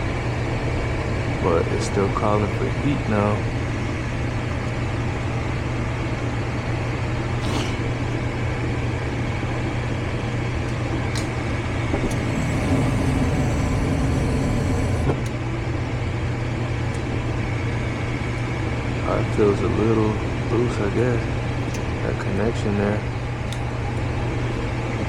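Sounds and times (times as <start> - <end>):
furnace motor hum: 0.0 - 25.0.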